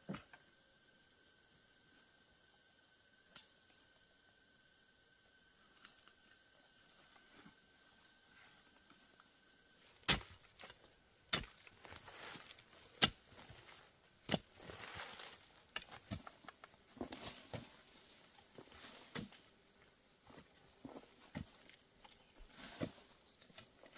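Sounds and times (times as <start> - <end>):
high insect drone: 0.0 - 23.9.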